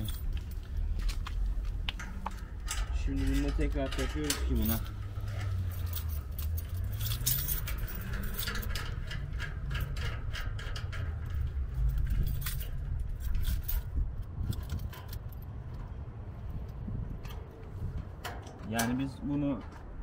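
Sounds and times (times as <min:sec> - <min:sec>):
low steady rumble: 0:00.0 - 0:18.6
metal clinking and rattling: 0:00.0 - 0:20.0.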